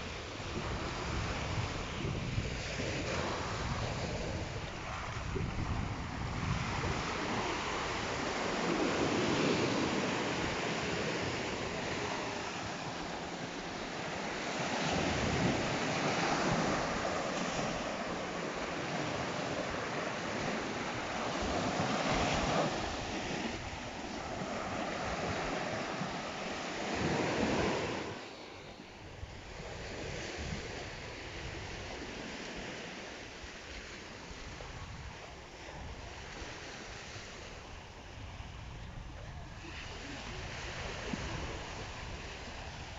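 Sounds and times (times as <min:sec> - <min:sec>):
sea waves breaking on shore: 0:00.0 - 0:42.9
wind on microphone: 0:00.0 - 0:42.9.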